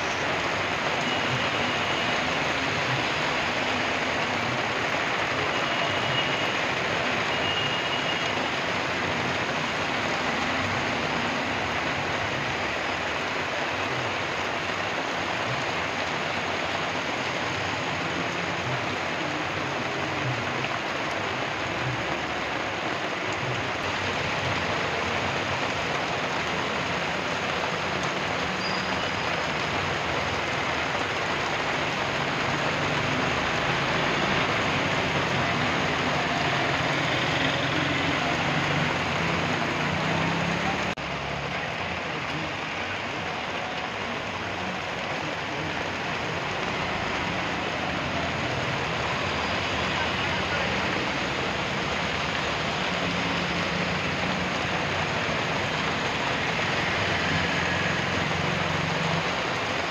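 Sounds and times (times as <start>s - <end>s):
heavy rain pouring on street: 0.0s - 59.9s
vehicles passing on wet road: 0.0s - 59.9s.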